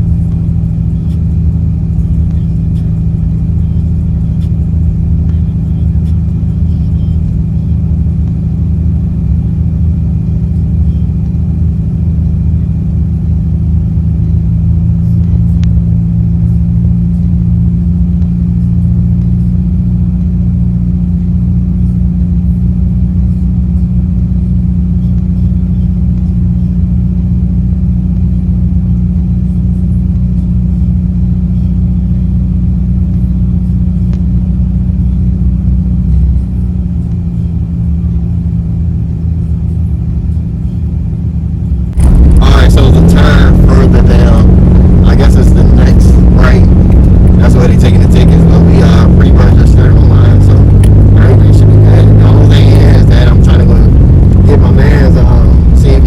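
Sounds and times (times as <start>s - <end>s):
car engine droning inside car: 0.0s - 56.0s
deep rumble: 0.0s - 56.0s.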